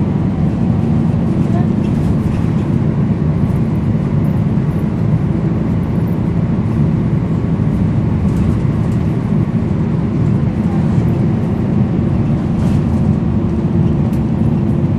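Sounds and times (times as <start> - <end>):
bus diesel engine droning: 0.0 - 14.9
road noise: 0.0 - 14.9.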